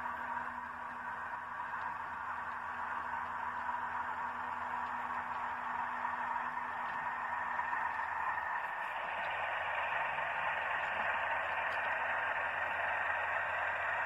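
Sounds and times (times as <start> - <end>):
model train wagons rolling on track: 0.0 - 14.0.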